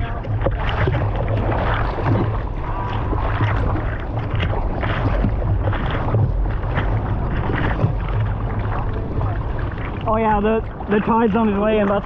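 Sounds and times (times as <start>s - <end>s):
low rumble of wind: 0.0s - 12.0s
sea water sloshing and splashing: 0.0s - 12.0s.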